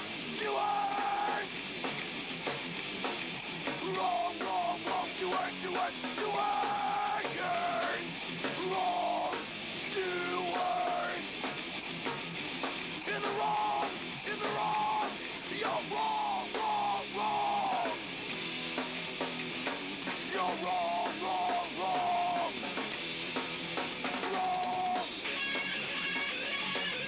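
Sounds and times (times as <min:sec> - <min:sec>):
bending lead guitar notes: 0:00.0 - 0:27.0
distorted backing: 0:00.0 - 0:27.0
drum kit: 0:00.0 - 0:27.0.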